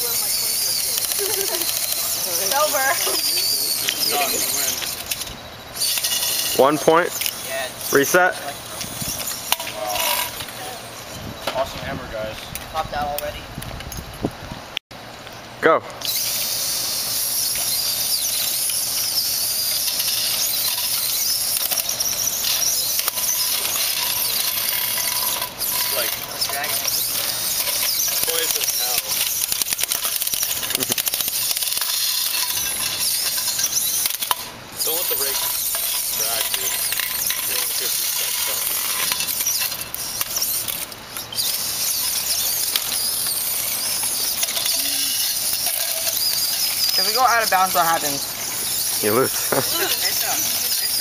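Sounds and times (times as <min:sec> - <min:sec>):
robot motors whining: 0:00.0 - 0:11.5, 0:16.0 - 0:51.0.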